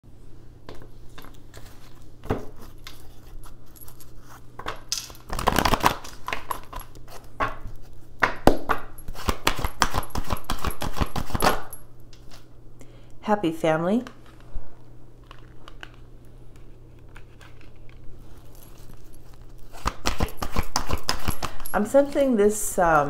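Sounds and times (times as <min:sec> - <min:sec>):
faint low hum: 0:00.1 - 0:23.0
objects handled on a tabletop: 0:00.6 - 0:12.5, 0:14.1 - 0:22.3.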